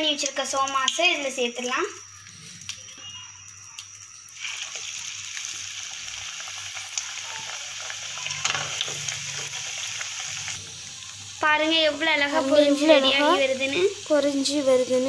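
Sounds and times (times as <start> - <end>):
pastry deep-frying in hot oil: 0.0 - 15.0.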